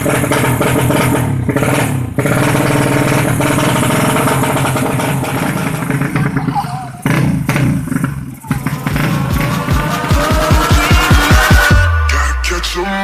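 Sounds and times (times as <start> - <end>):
motorcycle engine revving high: 0.0 - 12.1.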